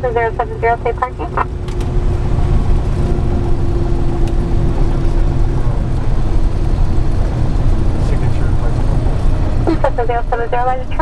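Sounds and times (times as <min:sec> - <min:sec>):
propeller engine rumbling: 0:00.0 - 0:11.0
steady engine hum: 0:00.0 - 0:11.0.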